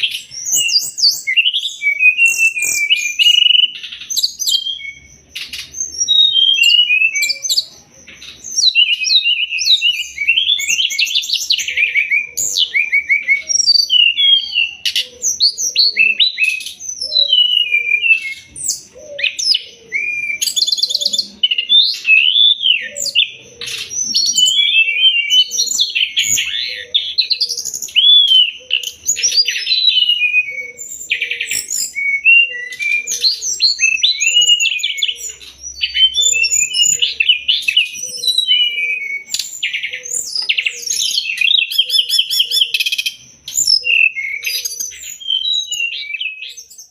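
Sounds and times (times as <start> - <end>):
bird singing whistles and trills: 0.0 - 46.9.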